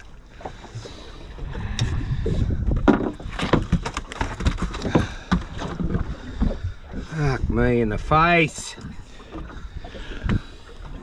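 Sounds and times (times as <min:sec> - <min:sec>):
knocks and clunks on boat: 0:00.0 - 0:11.0
low hull and water rumble: 0:00.0 - 0:11.0.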